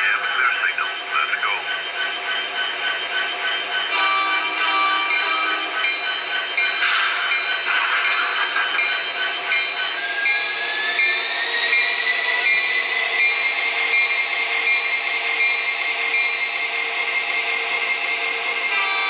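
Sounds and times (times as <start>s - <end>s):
diesel locomotive engine through small speaker: 0.0s - 19.0s.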